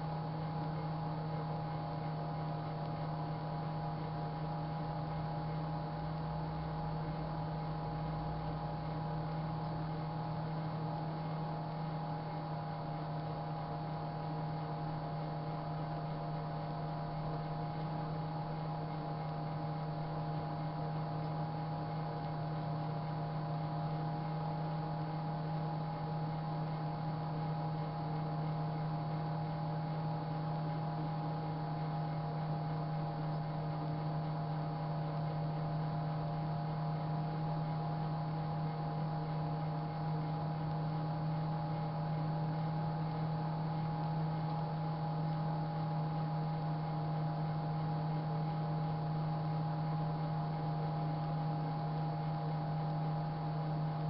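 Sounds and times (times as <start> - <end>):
microwave oven humming: 0.0 - 54.0.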